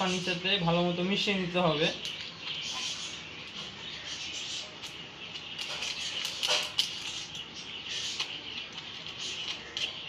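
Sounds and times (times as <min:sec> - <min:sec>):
budgerigars chirping: 0:00.0 - 0:10.0.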